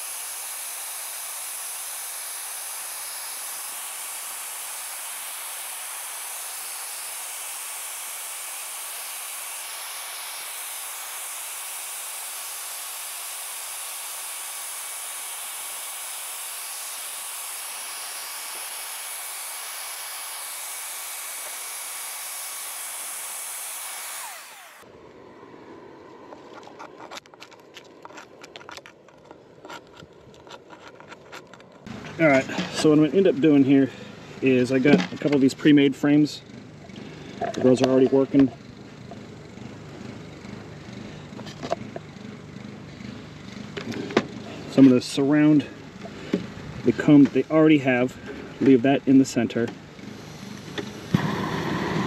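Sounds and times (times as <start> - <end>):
vacuum motor running: 0.0 - 24.9, 31.9 - 52.0.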